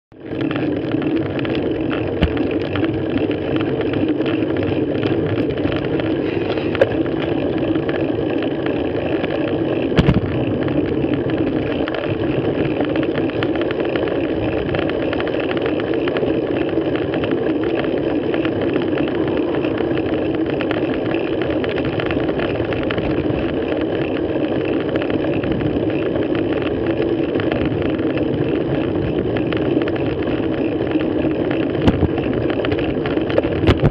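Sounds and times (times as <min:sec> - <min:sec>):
bike wind and tyre noise: 0:00.1 - 0:33.9.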